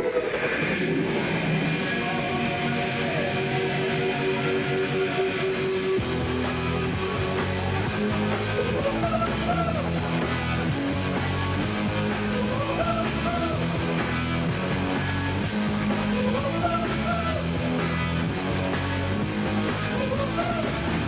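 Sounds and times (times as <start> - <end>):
rock band playing guitars and bass: 0.0 - 21.0.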